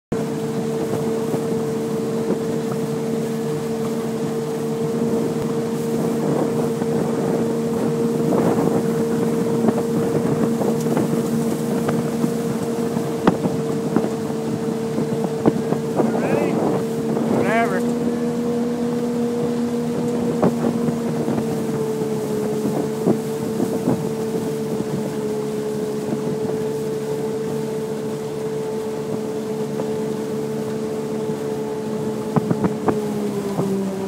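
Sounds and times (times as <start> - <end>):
airboat engine and propeller drone: 0.1 - 34.0.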